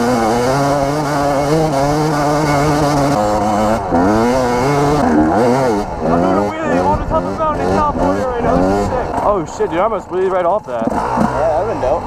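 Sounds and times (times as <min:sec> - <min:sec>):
dirt bike engine under load: 0:00.0 - 0:12.0.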